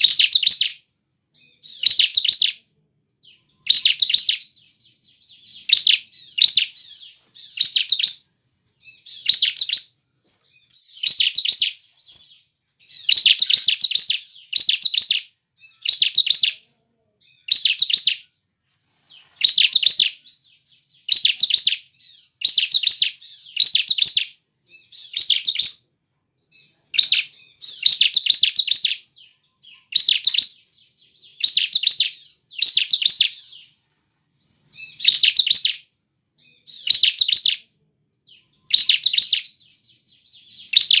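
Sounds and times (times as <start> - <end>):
bird singing trilled phrases: 0.0 - 25.8, 26.4 - 33.8, 34.4 - 41.0.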